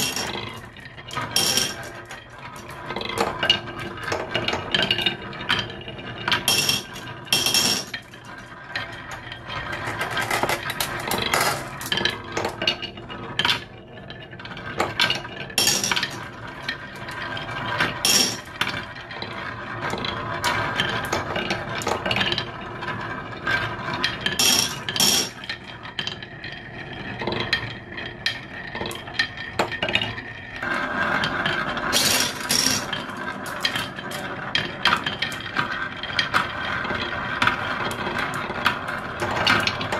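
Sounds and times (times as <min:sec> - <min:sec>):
marbles clacking: 0:00.0 - 0:22.5, 0:23.6 - 0:26.6, 0:27.2 - 0:39.9
marbles rolling on wooden track: 0:00.0 - 0:39.9.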